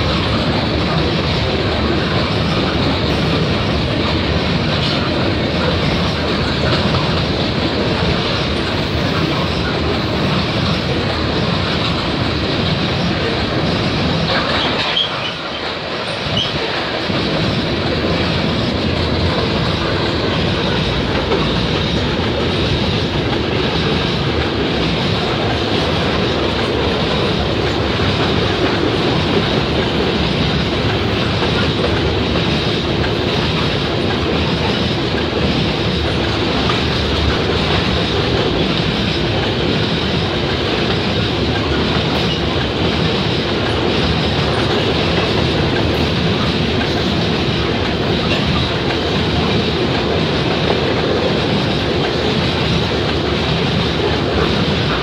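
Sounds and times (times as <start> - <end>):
wheels clacking over rail joints: 0.0 - 55.0.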